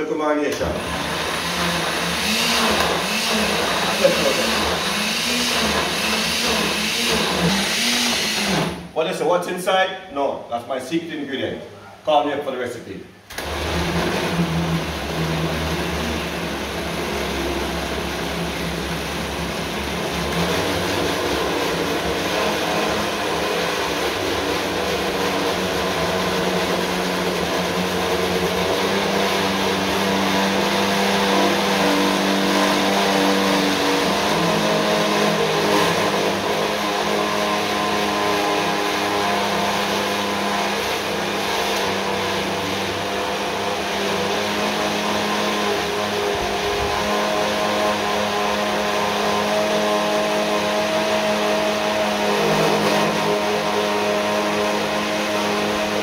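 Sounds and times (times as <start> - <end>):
blender motor running: 0.5 - 8.9, 13.3 - 56.0.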